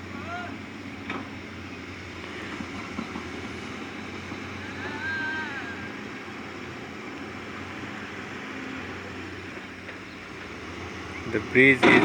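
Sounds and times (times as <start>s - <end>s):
machinery engine humming: 0.0s - 12.0s.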